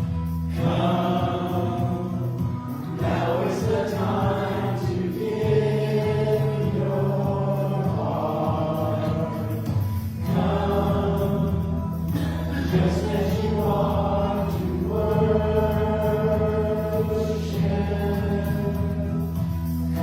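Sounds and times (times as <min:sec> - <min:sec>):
choir singing a hymn: 0:00.0 - 0:20.0
sustained low accompaniment: 0:00.0 - 0:20.0.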